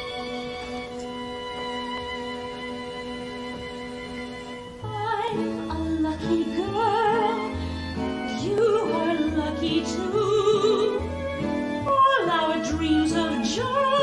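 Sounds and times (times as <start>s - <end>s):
pit orchestra: 0.0s - 14.0s.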